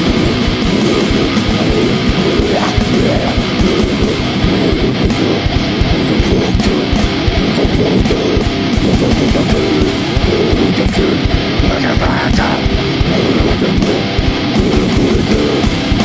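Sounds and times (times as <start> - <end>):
distorted electric guitars: 0.0 - 16.0
fast dense drumming: 0.0 - 16.0.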